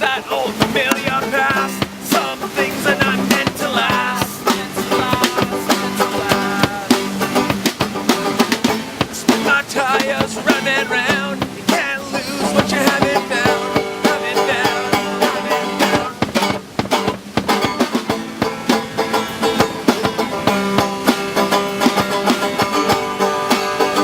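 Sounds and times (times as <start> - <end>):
acoustic guitar: 0.0 - 24.0
picked banjo: 0.0 - 24.0.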